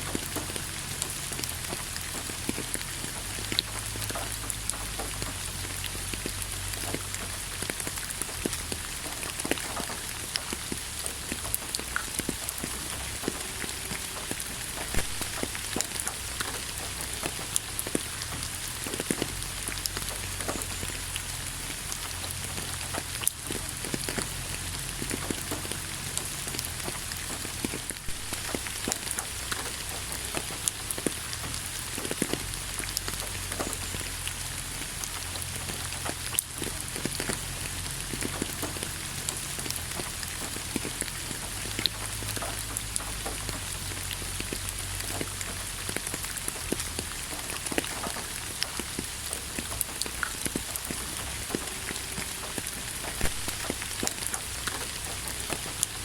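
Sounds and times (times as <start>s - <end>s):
rain falling: 0.0s - 56.0s
raindrops tapping and splattering: 0.0s - 56.0s.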